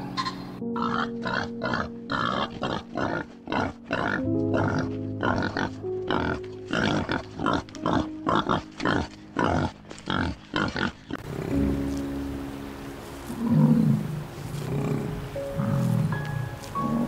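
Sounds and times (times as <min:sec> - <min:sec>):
wild boars grunting: 0:00.0 - 0:12.4, 0:13.0 - 0:17.0
background music: 0:00.0 - 0:17.0.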